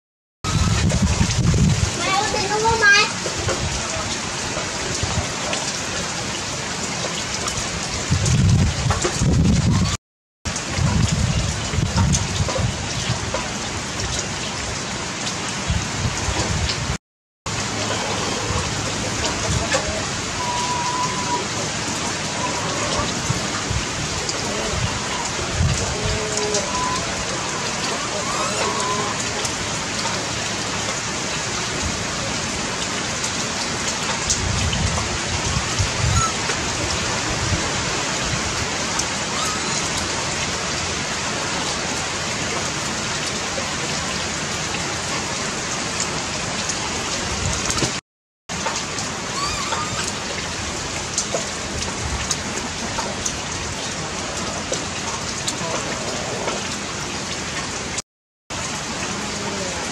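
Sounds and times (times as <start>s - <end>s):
steady rain falling: 0.4s - 59.9s.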